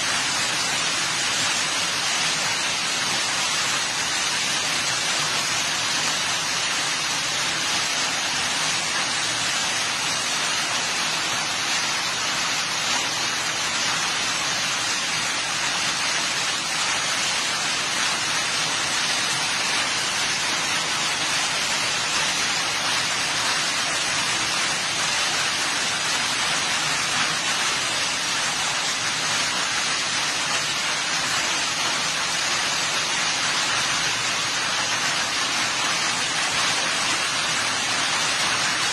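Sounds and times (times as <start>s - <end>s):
rain falling on grass and leaves: 0.0s - 38.9s.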